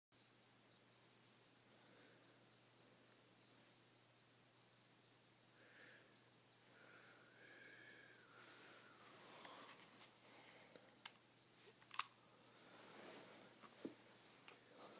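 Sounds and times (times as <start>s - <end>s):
faint high-pitched chirping: 0.2s - 14.9s.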